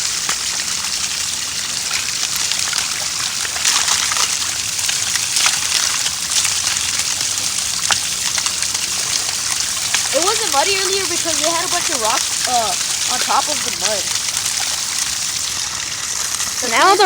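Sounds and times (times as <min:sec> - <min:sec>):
water splashing: 0:00.0 - 0:17.0
water trickling over rocks: 0:00.0 - 0:17.0.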